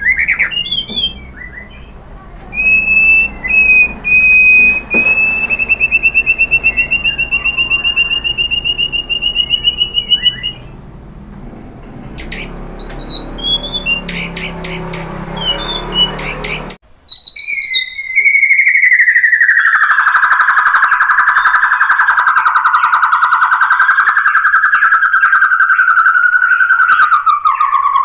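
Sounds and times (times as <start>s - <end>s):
bird singing whistles and trills: 0.0s - 10.8s, 12.2s - 28.0s.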